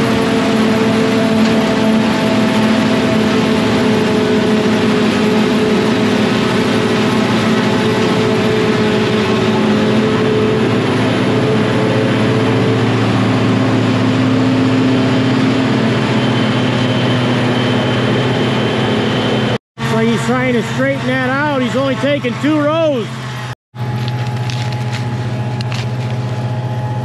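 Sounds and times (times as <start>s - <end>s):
forage harvester drone: 0.0s - 27.0s.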